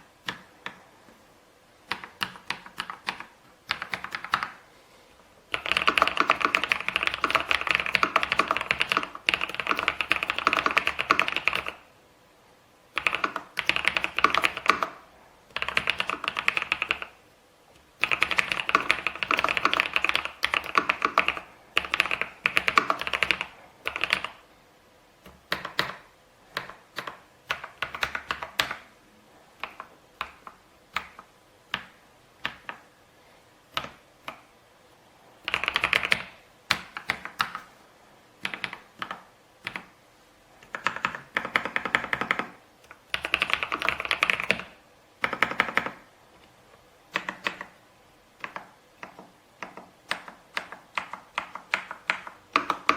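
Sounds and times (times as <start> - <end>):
mechanical keyboard typing: 0.2 - 0.8, 1.8 - 4.6, 5.5 - 11.8, 12.9 - 17.2, 17.8 - 24.4, 25.2 - 28.9, 29.6 - 32.8, 33.7 - 34.4, 35.4 - 37.7, 38.4 - 39.9, 40.6 - 46.1, 47.1 - 47.8, 48.4 - 52.9.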